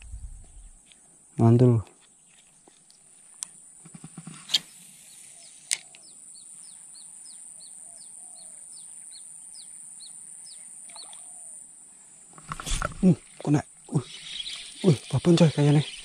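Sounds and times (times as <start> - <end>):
high insect drone: 2.6 - 16.0.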